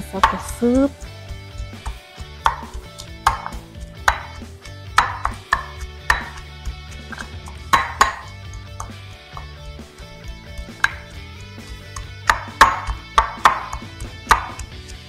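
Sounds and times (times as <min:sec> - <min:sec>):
pestle pounding in stone mortar: 0:00.0 - 0:15.0.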